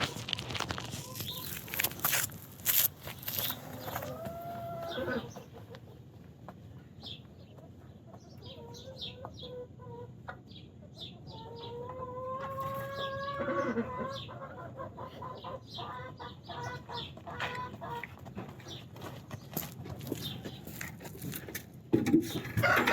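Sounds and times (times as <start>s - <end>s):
chickens clucking and chirping: 0.0s - 22.9s.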